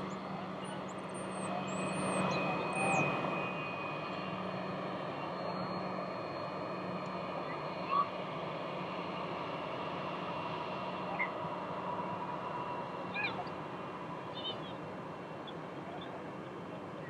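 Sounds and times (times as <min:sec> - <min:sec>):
jet engine hiss and whine: 0:00.0 - 0:17.0.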